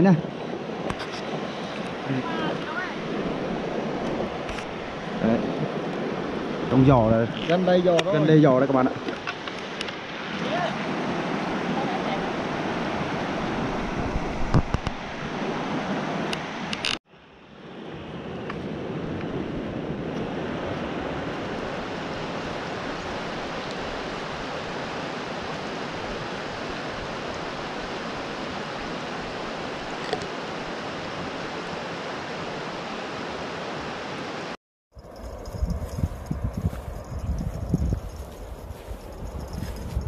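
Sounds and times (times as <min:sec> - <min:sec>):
stream water rushing: 0:00.0 - 0:36.4.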